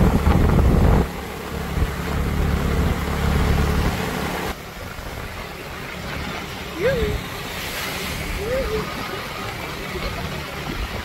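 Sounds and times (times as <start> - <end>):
tyres hissing on wet road: 0.0 - 11.0
wind rumbling on microphone: 0.0 - 11.0.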